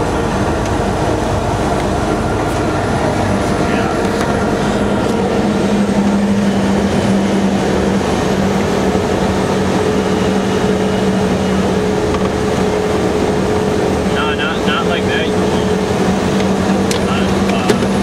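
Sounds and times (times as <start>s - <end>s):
higher hum: 0.0s - 18.0s
vehicle engine and road noise: 0.0s - 18.0s.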